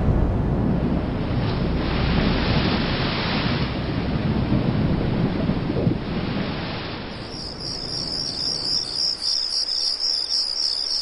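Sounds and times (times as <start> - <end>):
thunder rumbling: 0.0 - 9.1
steady rain: 0.0 - 11.0.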